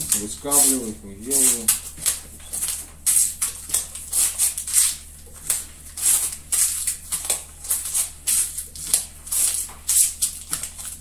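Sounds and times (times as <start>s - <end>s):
knife slicing through rope: 0.0s - 11.0s.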